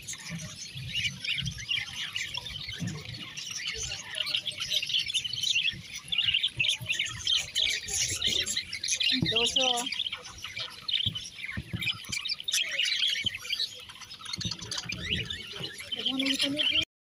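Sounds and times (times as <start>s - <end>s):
budgerigars chattering: 0.0s - 16.8s.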